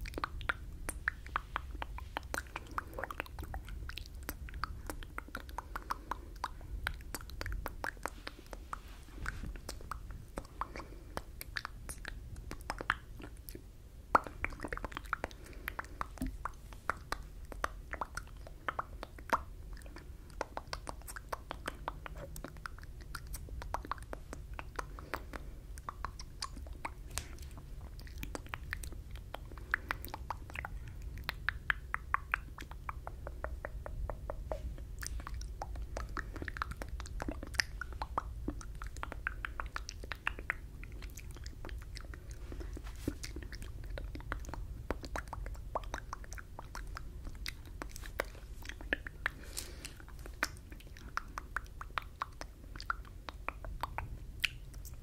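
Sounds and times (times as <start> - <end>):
low steady hum: 0.0 - 55.0
wet mouth clicks and lip smacks: 0.0 - 55.0.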